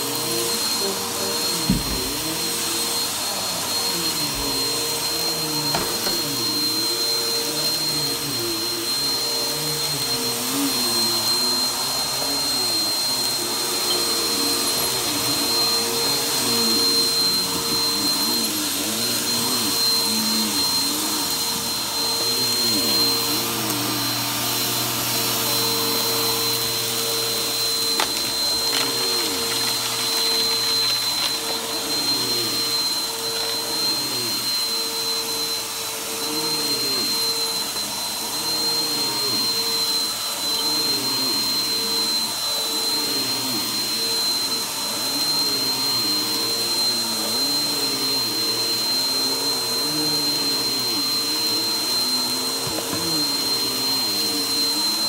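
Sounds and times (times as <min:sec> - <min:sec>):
upright vacuum cleaner running: 0:00.0 - 0:55.0.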